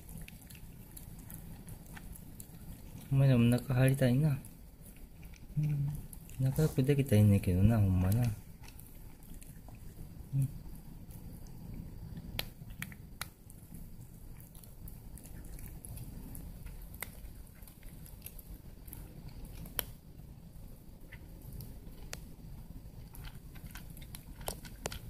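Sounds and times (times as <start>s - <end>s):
cats chewing and licking: 0.0s - 25.0s
low steady hum: 0.0s - 25.0s.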